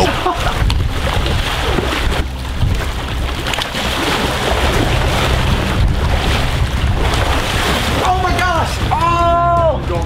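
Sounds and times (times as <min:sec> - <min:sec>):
water splashing and sloshing: 0:00.0 - 0:10.0
wind rumbling on microphone: 0:00.0 - 0:10.0.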